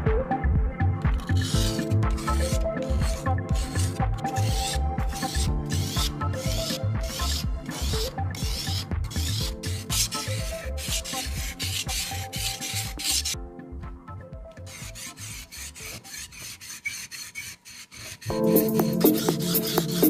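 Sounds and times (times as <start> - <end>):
background music: 0.0 - 17.1, 18.3 - 20.0
metal rasping strokes: 1.1 - 13.4, 14.6 - 20.0.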